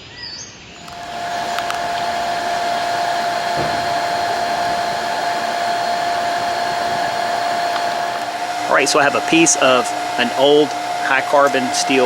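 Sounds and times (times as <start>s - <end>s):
electric air blower whining: 0.8s - 12.0s.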